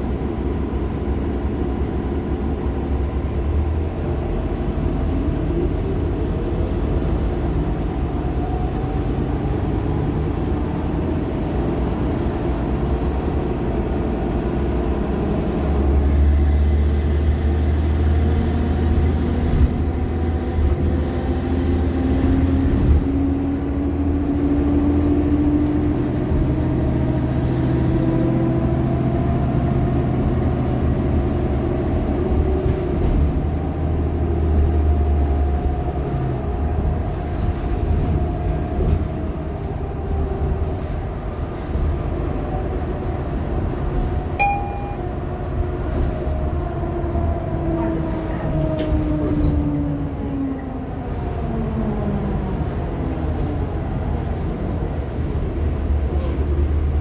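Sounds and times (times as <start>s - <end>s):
bus drivetrain drone: 0.0s - 57.0s.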